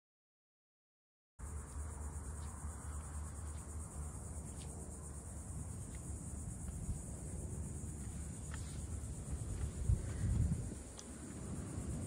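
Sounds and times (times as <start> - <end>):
insects trilling: 1.4 - 12.0.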